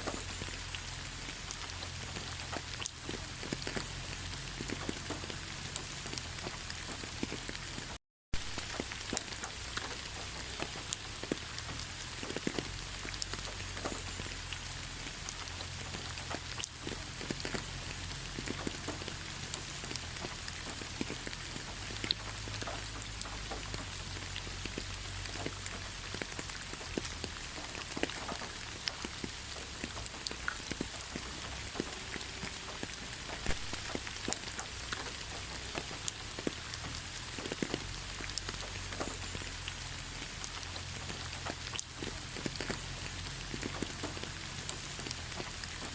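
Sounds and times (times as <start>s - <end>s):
raindrops ticking on hard surface: 0.0s - 45.9s
steady rain falling: 0.0s - 45.9s.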